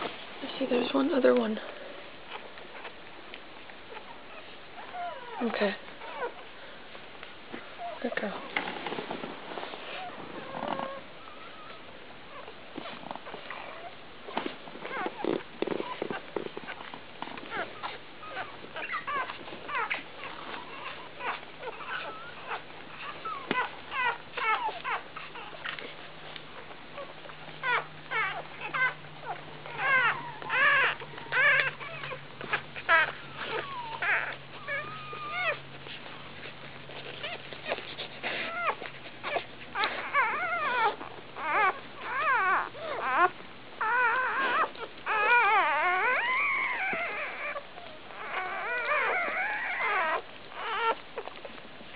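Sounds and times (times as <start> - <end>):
puppies squeaking and whimpering: 0.0 - 7.0, 7.6 - 51.9.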